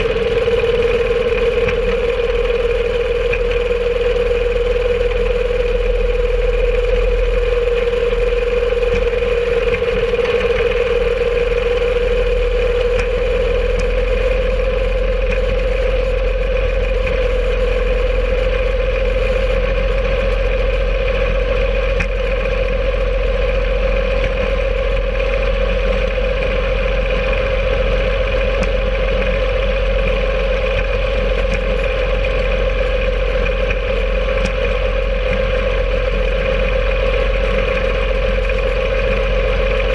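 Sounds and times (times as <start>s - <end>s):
rail cart engine droning: 0.0s - 39.9s.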